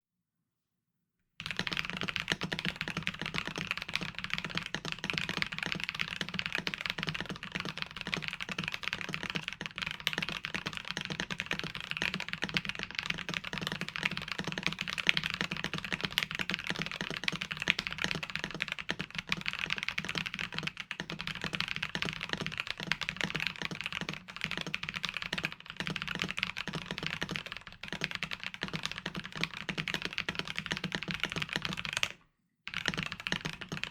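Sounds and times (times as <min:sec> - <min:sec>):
fast typing on mechanical keyboard: 0:01.4 - 0:33.9.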